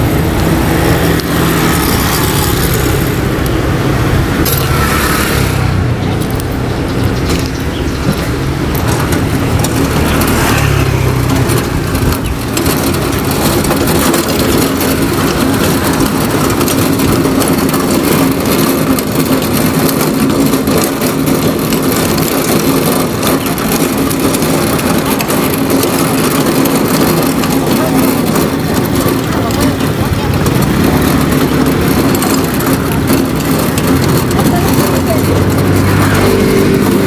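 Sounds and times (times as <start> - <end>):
vehicle rolling and rattling: 0.0 - 37.0.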